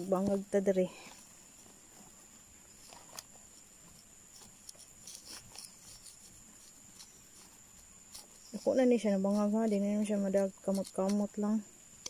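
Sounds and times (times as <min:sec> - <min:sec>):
stick scraping soil: 0:00.0 - 0:12.0.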